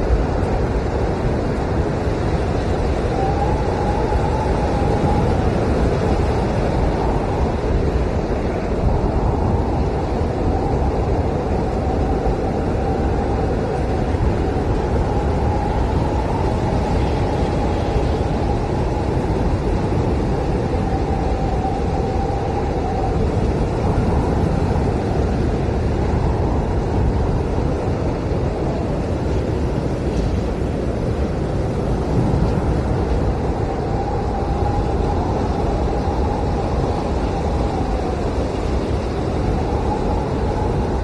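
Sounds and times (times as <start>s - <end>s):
blizzard wind howling: 0.0s - 41.0s.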